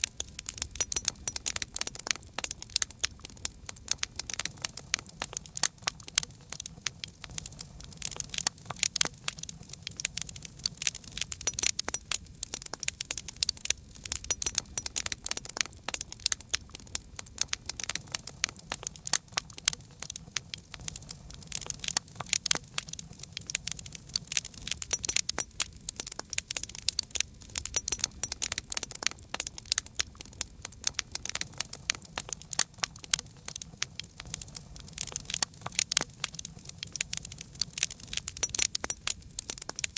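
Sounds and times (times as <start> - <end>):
burning wood popping and snapping: 0.0 - 39.9
low rumble of flames: 0.0 - 39.9.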